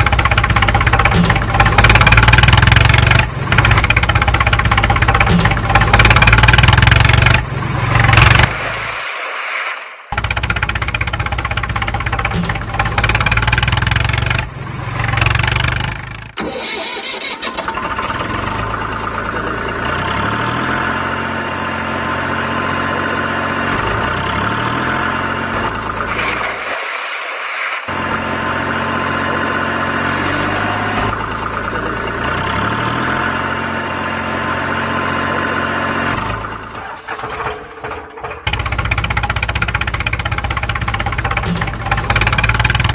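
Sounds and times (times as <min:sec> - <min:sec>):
tractor engine chugging: 0:00.0 - 0:07.4, 0:10.2 - 0:26.2, 0:27.9 - 0:42.9
different engine sound: 0:00.0 - 0:42.9.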